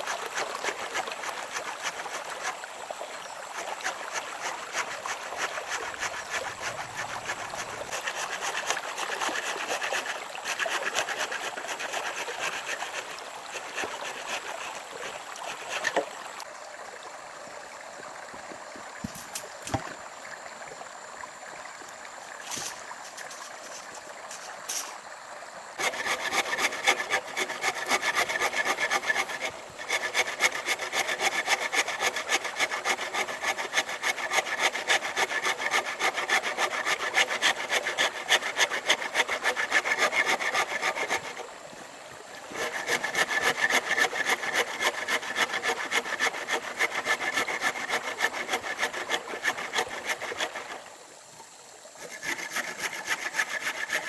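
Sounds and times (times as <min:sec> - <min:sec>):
hand saw cutting wood: 0:00.0 - 0:02.7, 0:03.6 - 0:16.2, 0:22.5 - 0:25.0, 0:25.8 - 0:50.9, 0:52.0 - 0:54.0.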